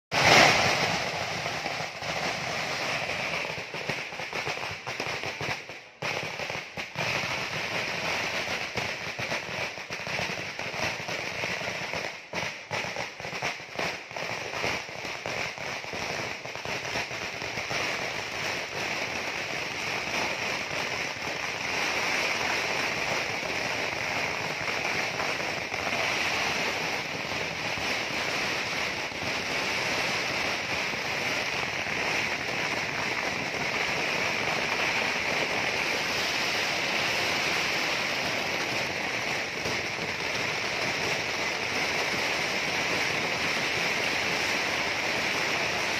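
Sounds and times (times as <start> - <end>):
firecrackers crackling: 0.1 - 45.9.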